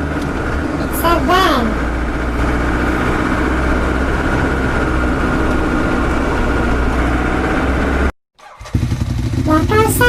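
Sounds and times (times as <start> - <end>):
car engine idling: 0.0 - 8.1.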